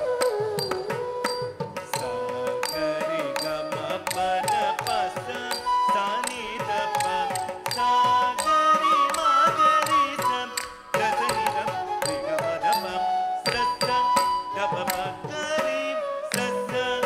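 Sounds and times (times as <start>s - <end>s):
drum strokes: 0.0s - 17.0s
ornamented melody: 0.0s - 17.0s.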